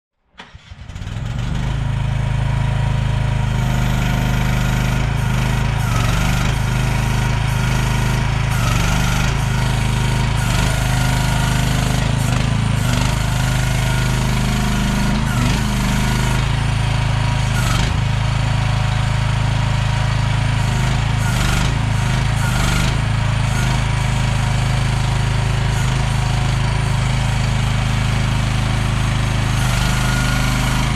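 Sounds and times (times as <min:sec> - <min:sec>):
excavator engine running: 0:00.9 - 0:30.9.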